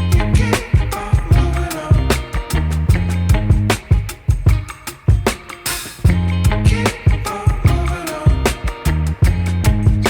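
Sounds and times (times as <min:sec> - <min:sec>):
funk groove music: 0:00.0 - 0:10.0.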